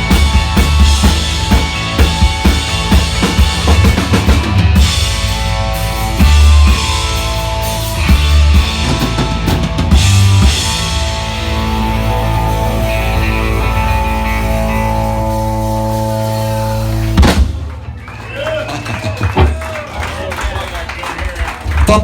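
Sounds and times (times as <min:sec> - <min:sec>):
electric guitar chords: 0:00.0 - 0:17.9
bass guitar: 0:00.0 - 0:19.9
drum kit fills: 0:00.0 - 0:22.0.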